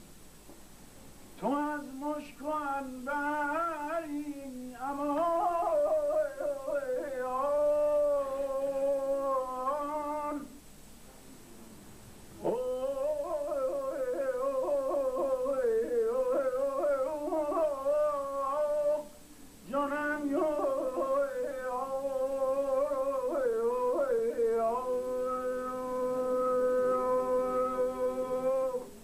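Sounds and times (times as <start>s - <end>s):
person singing ornamented melody: 1.4s - 10.6s, 12.4s - 29.0s.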